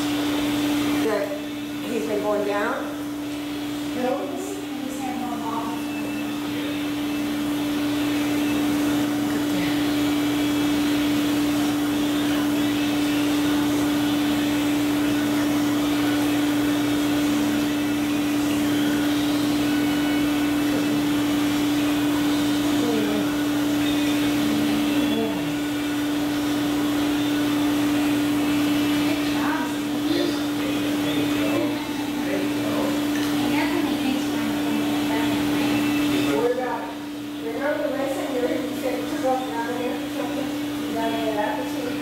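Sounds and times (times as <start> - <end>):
pump motor humming: 0.0 - 42.0.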